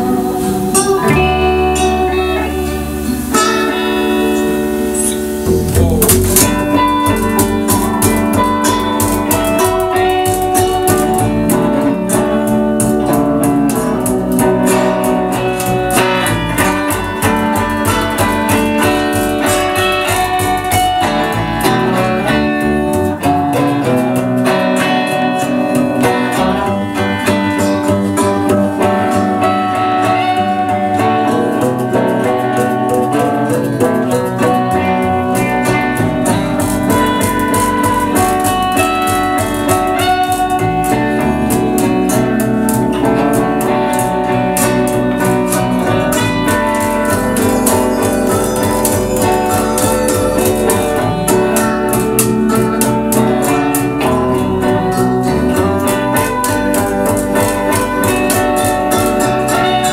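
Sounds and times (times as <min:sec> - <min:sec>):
guitars strumming: 0:00.0 - 0:59.9
plucked double bass: 0:00.0 - 0:59.9.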